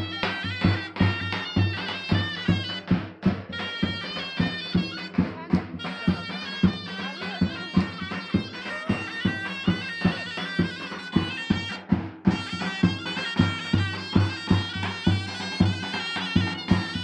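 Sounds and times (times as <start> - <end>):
large drum beats: 0.0 - 17.0
reed wind instrument melody: 0.0 - 17.0.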